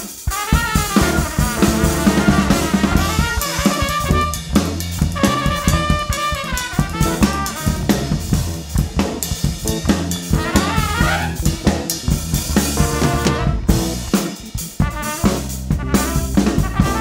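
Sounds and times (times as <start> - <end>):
trumpet lead line: 0.0 - 8.5, 9.6 - 11.9, 12.5 - 17.0
funk band playing: 0.0 - 17.0.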